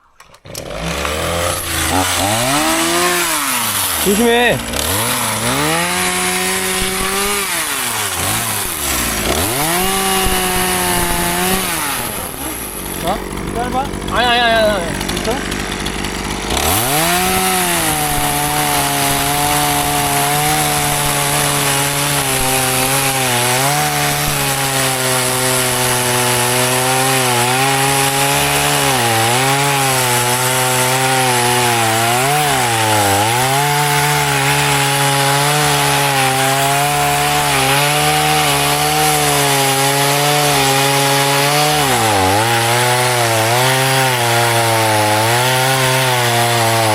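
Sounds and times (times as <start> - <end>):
electric chainsaw cutting wood: 0.0 - 46.9.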